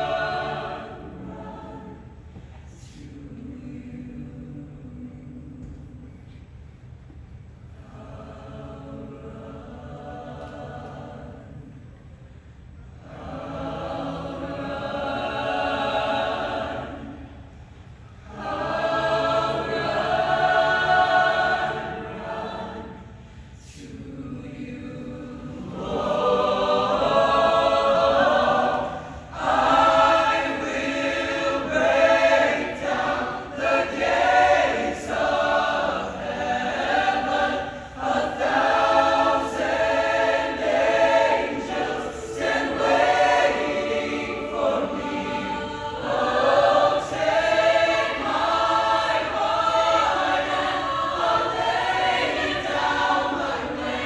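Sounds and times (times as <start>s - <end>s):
choir singing in harmony: 0.0s - 6.4s, 7.6s - 12.1s, 12.9s - 54.0s.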